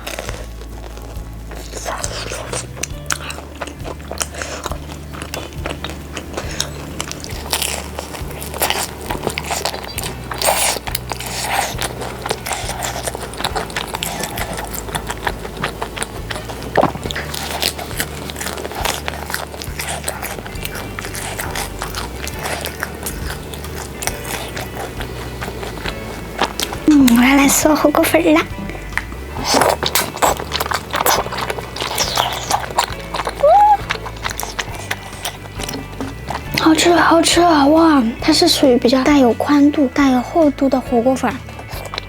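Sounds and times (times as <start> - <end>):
crunching bites of fried food: 0.0 - 36.8, 41.3 - 42.0
quiet background music: 0.0 - 42.0.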